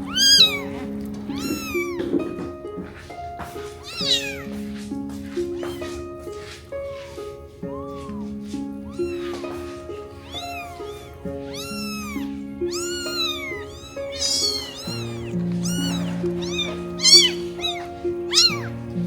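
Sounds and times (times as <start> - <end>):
cat meowing: 0.0 - 4.6, 5.5 - 6.1, 7.6 - 19.0.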